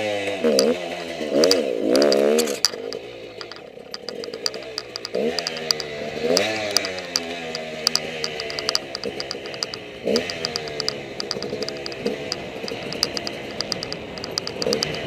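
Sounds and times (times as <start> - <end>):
motorcycle engine revving: 0.0 - 15.0
sharp clicks: 0.2 - 15.0.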